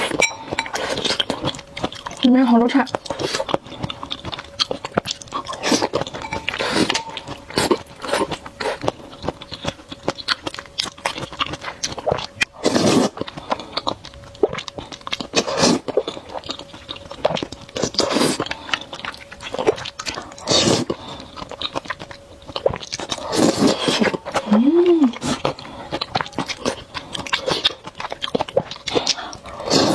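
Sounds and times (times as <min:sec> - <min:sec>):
wet chewing and crunching: 0:00.0 - 0:29.9.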